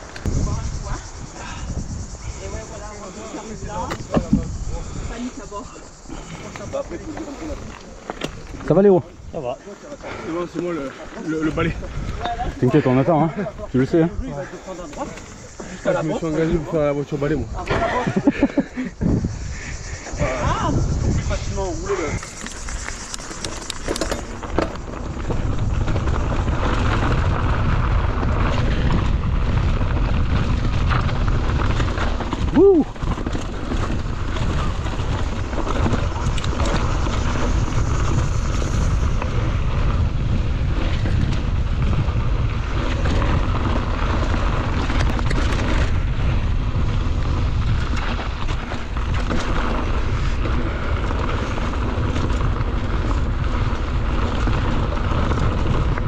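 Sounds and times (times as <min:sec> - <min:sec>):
mountain bike rumbling and rattling: 0:00.0 - 0:56.0
wind buffeting microphone: 0:00.0 - 0:56.0.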